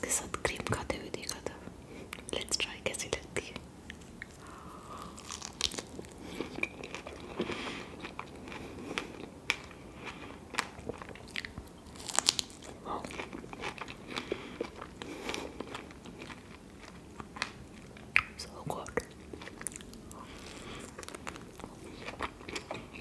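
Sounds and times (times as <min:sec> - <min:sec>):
person chewing wetly: 0:04.0 - 0:23.0.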